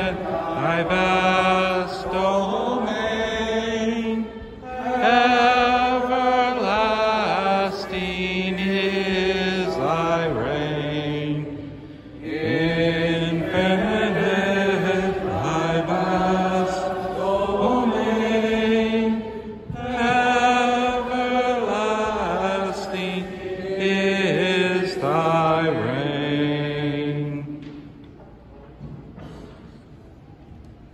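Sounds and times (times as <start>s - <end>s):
voices singing a slow hymn: 0.0s - 28.2s.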